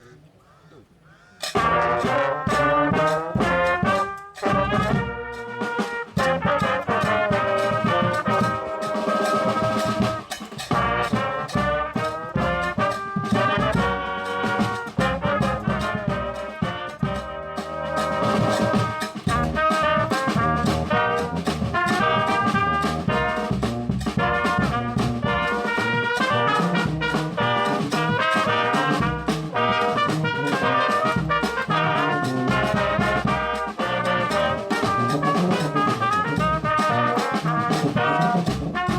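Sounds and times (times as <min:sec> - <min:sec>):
band playing: 0:01.4 - 0:38.9
brass horns holding notes: 0:01.4 - 0:38.9.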